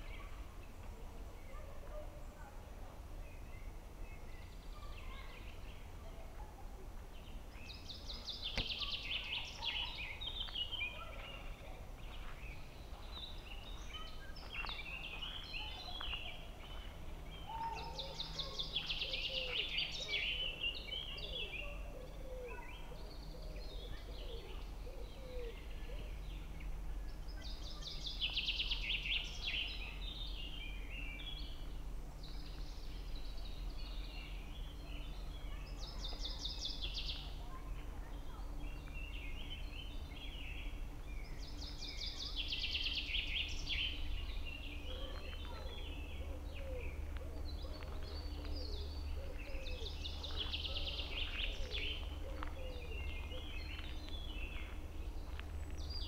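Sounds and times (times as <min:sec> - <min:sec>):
birds chirping: 0:00.0 - 0:56.0
low background rumble: 0:00.0 - 0:56.0.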